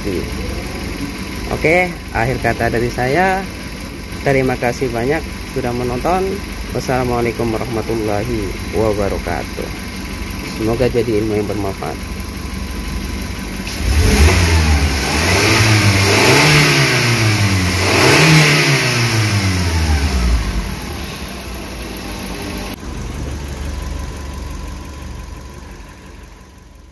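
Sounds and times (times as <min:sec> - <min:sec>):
car engine revving and idling: 0:00.0 - 0:26.9.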